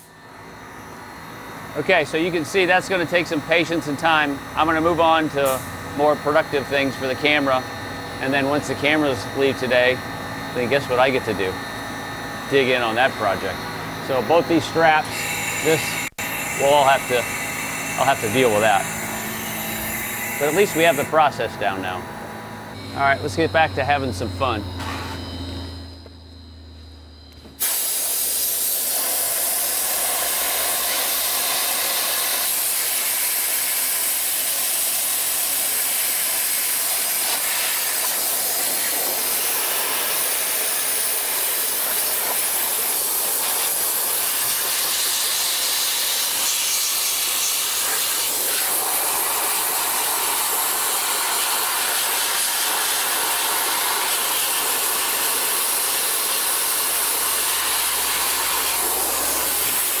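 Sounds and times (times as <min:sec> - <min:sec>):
dry ice blasting hiss: 0:01.7 - 0:22.0, 0:27.4 - 1:00.0.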